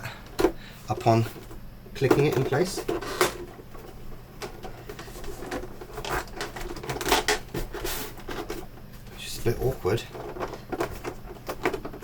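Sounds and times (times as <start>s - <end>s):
plastic scraping on plastic: 0.4s - 12.0s.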